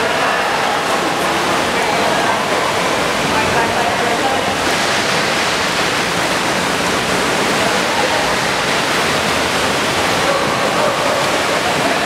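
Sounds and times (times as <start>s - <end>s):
water splashing in pool: 0.0s - 12.0s.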